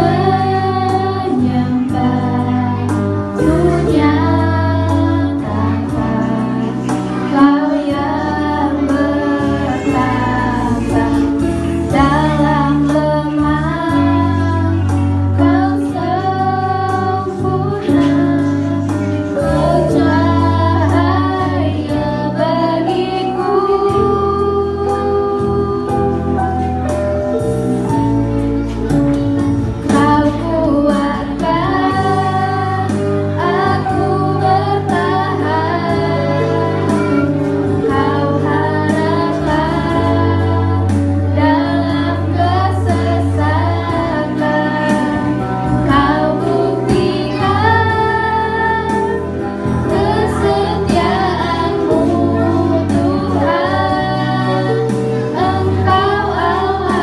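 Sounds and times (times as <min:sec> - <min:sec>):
group singing worship song: 0:00.0 - 0:27.0, 0:28.8 - 0:57.0
instrumental accompaniment: 0:00.0 - 0:57.0.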